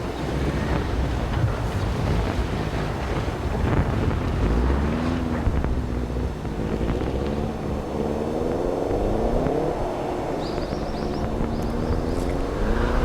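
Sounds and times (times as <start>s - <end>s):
rally car engine revving hard: 0.0s - 13.0s
wind rumble on microphone: 0.0s - 13.0s.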